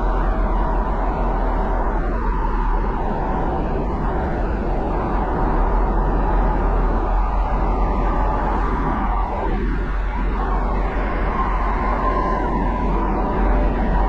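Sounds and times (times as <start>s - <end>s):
road and tyre noise: 0.0s - 14.0s.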